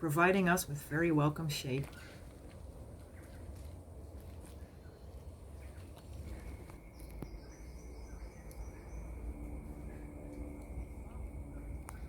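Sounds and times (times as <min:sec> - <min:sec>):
high chirring insect call: 0:00.0 - 0:12.0
low rumble: 0:00.0 - 0:12.0.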